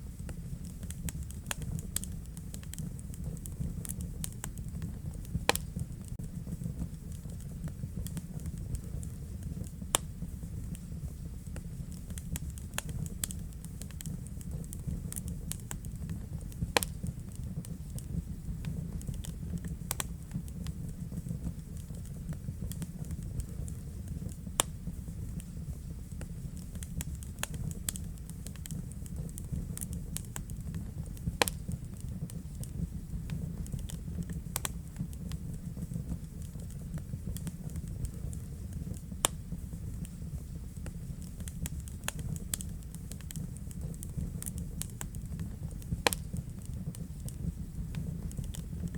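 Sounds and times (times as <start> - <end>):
fire crackling and popping: 0.0 - 48.9
fire rumbling: 0.0 - 48.9.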